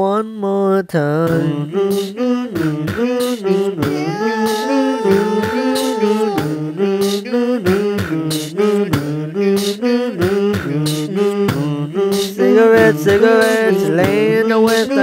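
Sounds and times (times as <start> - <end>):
percussive vocal beat: 1.1 - 15.0
layered vocal harmonies: 1.3 - 15.0.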